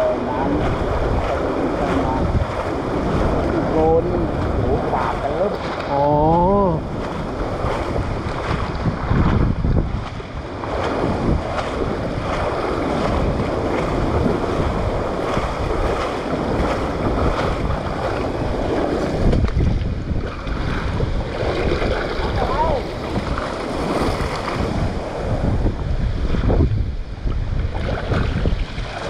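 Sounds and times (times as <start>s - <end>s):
wading through floodwater: 0.0s - 29.0s
wind buffeting microphone: 0.0s - 29.0s.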